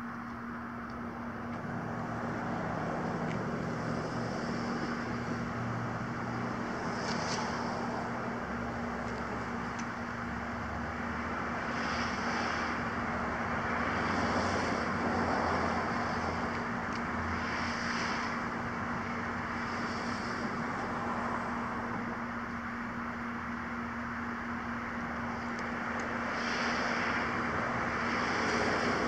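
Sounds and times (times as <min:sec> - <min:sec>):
vehicle hum: 0:00.0 - 0:29.0.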